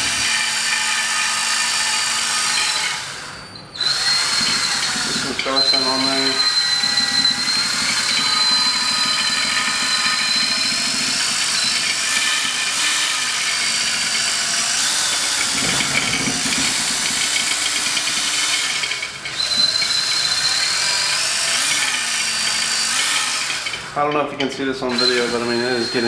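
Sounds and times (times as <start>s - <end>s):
cordless drill motor whining: 0.0s - 24.1s, 24.8s - 26.0s.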